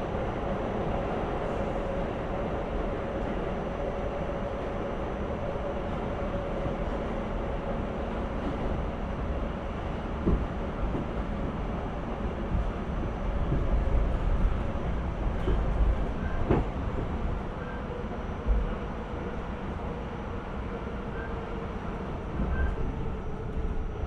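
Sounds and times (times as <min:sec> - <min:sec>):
subway car rumble: 0:00.0 - 0:24.0.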